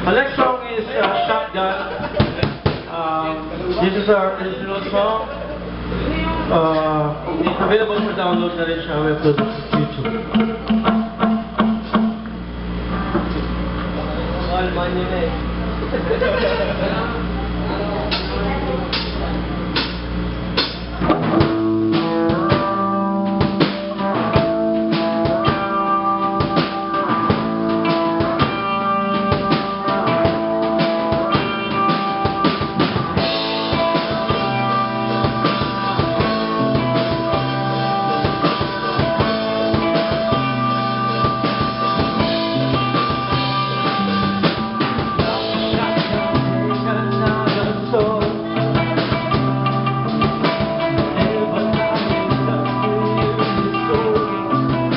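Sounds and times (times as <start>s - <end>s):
drum kit with rimshots: 0.0s - 4.0s, 5.0s - 14.6s, 17.2s - 54.9s
bass guitar: 0.0s - 54.9s
electric guitars: 0.0s - 54.9s.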